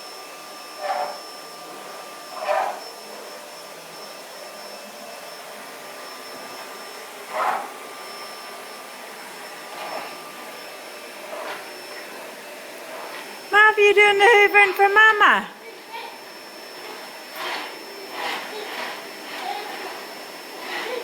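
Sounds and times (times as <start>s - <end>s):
vacuum cleaner running: 0.0s - 13.6s, 14.2s - 21.0s.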